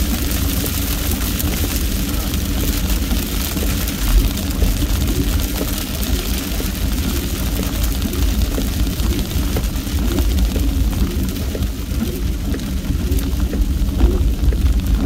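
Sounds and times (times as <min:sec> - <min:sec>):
rain and road spray hiss: 0:00.0 - 0:15.0.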